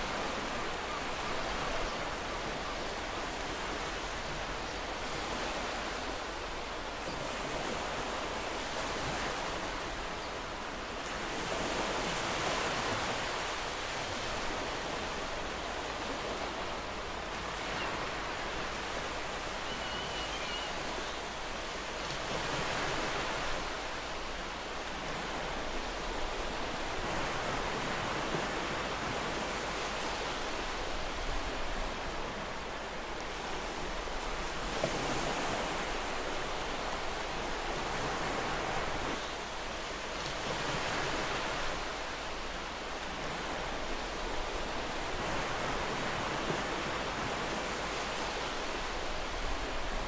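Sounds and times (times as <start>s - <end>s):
ocean waves washing on shore: 0.0s - 50.0s.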